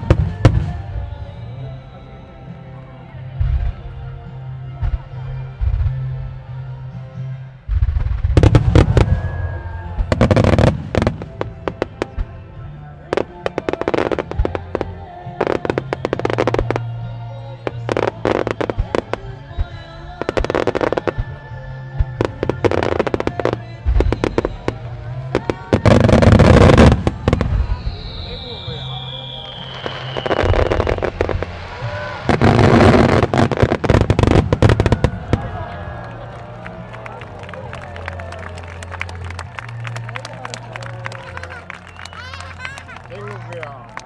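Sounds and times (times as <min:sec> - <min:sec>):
fireworks bursts and crackling: 0:00.0 - 0:01.7, 0:07.7 - 0:44.0
music with low tones: 0:00.0 - 0:44.0.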